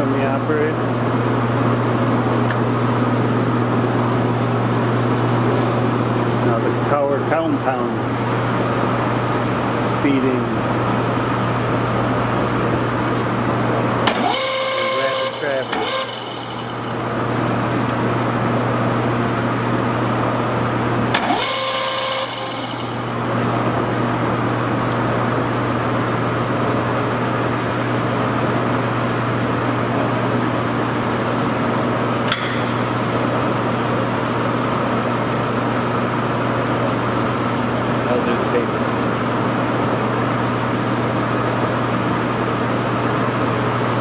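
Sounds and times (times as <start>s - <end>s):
lathe drive hum and gear whir: 0.0s - 44.0s.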